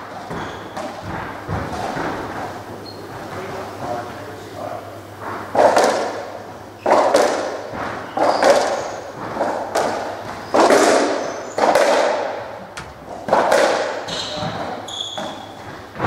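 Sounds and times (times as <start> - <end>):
ball hitting racket and walls: 0.0 - 2.6, 5.5 - 16.0.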